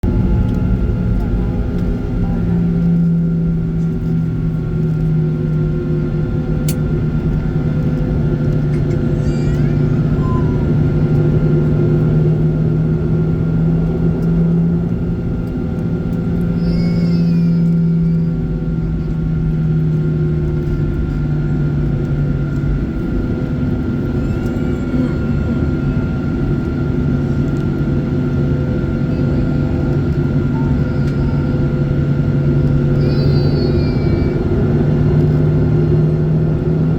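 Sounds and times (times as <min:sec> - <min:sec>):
jet engines running: 0:00.0 - 0:36.9.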